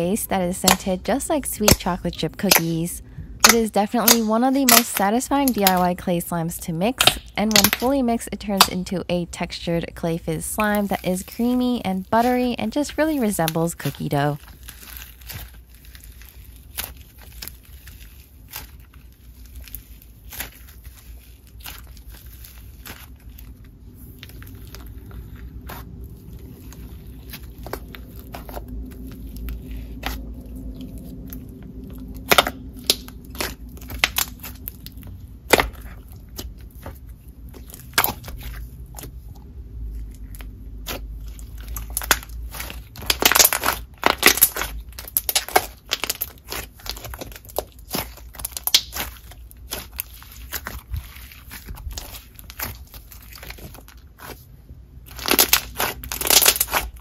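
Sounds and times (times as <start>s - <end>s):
slime crunching and popping: 6.9s - 8.8s, 10.6s - 57.0s.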